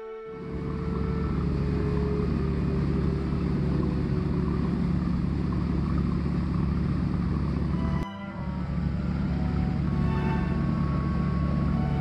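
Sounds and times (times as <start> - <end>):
boat engine droning: 0.0 - 12.0
wind and water rushing: 0.1 - 12.0.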